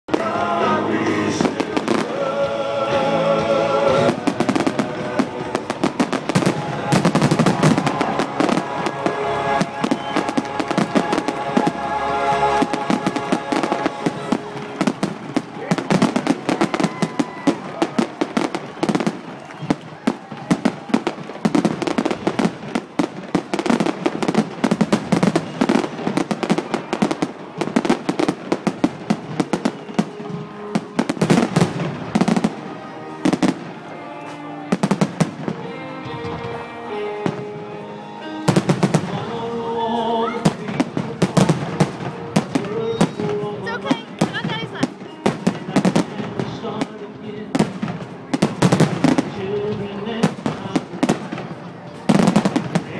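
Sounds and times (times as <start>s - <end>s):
fireworks crackling: 0.1s - 52.9s.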